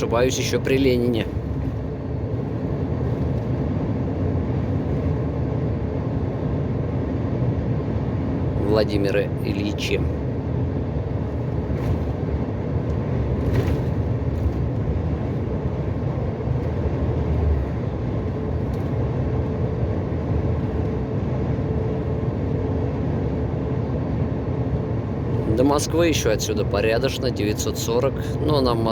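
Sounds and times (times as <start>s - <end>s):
truck engine and tyres rumbling: 0.0s - 28.9s.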